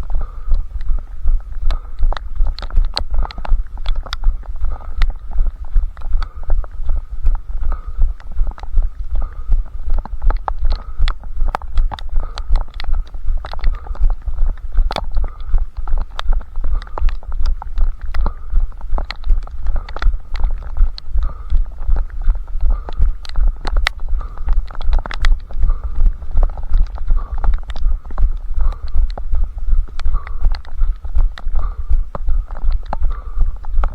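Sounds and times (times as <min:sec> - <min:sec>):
heavy running footfalls: 0:00.0 - 0:33.9
sharp ticks: 0:00.0 - 0:33.9.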